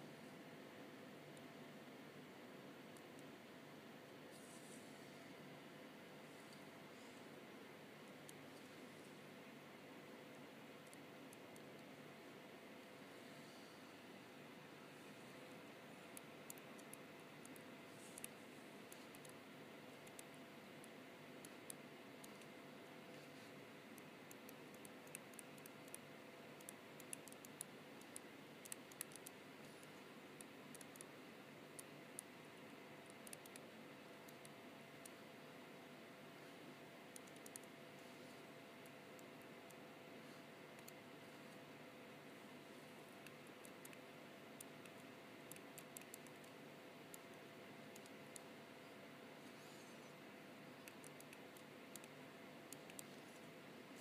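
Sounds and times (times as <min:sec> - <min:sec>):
low steady hiss: 0:00.0 - 0:54.0.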